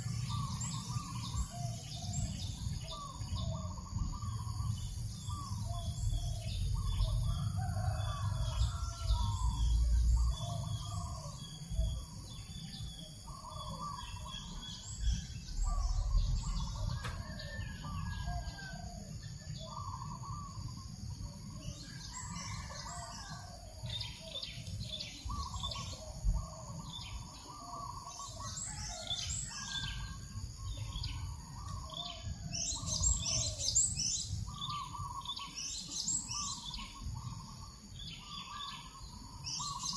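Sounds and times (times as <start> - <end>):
birds chirping and calling: 0.0 - 39.9
wind rumble on microphone: 0.2 - 22.6, 24.6 - 27.9, 28.6 - 38.3.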